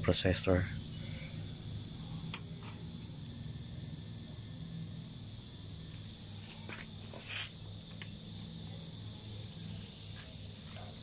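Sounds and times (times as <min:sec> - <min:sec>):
faint high chirring: 0:00.0 - 0:11.0
low steady hum: 0:00.0 - 0:11.0.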